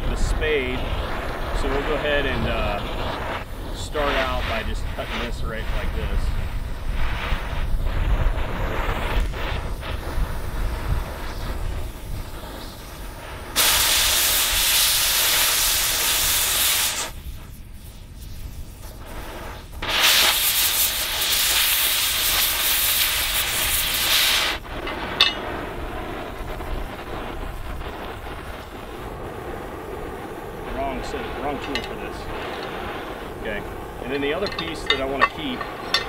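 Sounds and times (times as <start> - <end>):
cutting torch hissing: 0.0 - 36.0.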